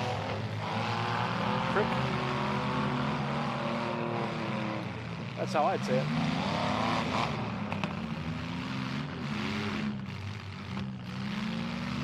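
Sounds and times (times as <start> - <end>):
engines revving: 0.0 - 12.0.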